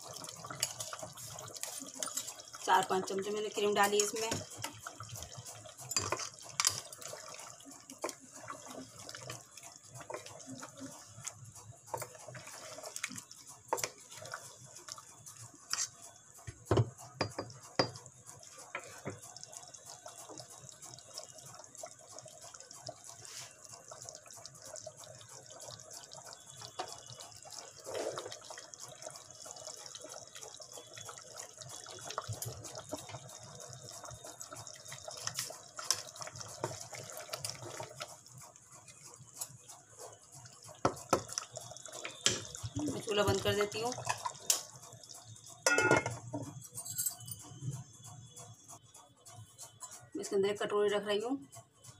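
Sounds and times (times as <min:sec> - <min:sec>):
curry simmering in a pot: 0:00.0 - 0:46.7.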